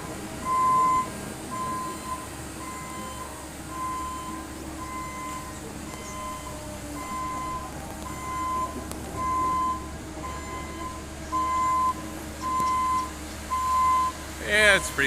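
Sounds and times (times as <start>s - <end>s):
excavator engine hum: 0.0s - 15.0s
excavator travel alarm beeping: 0.0s - 15.0s.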